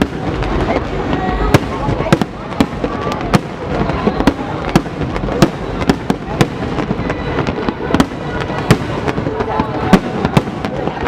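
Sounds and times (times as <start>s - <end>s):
distant fireworks rumble and crackle: 0.0s - 11.0s
fireworks sharp bangs: 0.0s - 11.0s.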